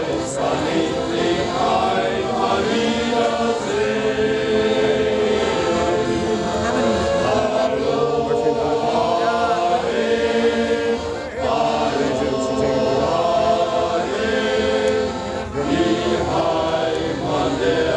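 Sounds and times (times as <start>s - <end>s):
accordion: 0.0s - 17.9s
men's choir singing: 0.0s - 17.9s.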